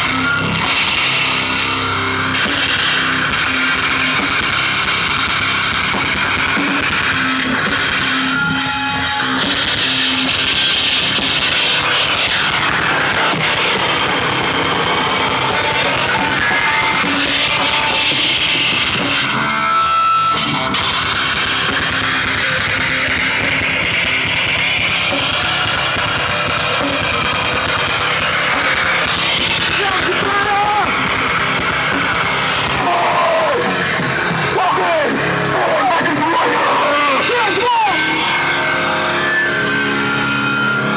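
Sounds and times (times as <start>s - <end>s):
loud rock band with guitars: 0.0s - 40.9s.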